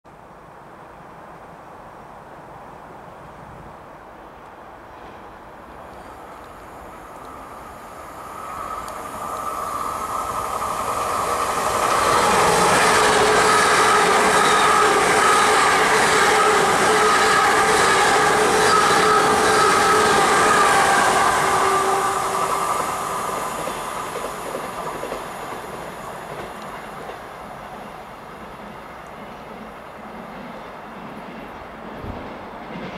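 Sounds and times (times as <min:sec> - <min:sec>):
train passing at speed: 0:00.1 - 0:32.9.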